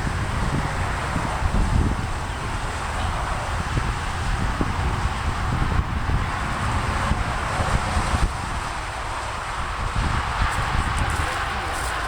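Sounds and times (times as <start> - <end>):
road traffic hiss: 0.0 - 12.0
wind buffeting microphone: 0.0 - 12.0.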